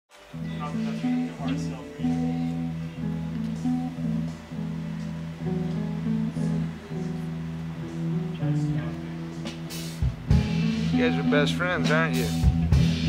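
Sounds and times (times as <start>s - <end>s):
plucked guitar notes: 0.2s - 13.0s
steady bass: 0.4s - 13.0s.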